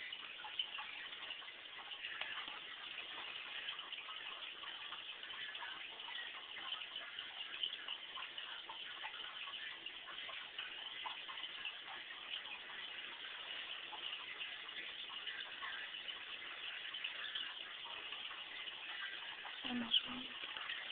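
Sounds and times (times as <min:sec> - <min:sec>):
aquarium water bubbling: 0:00.0 - 0:20.9.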